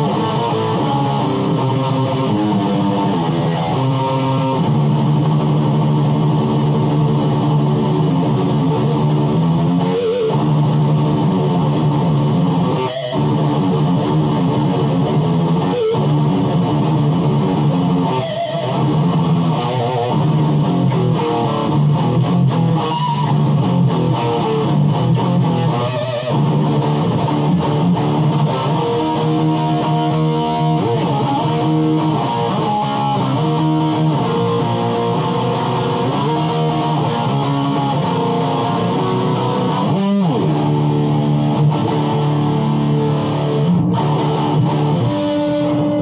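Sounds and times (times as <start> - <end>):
electric guitar riffs: 0.0 - 46.0.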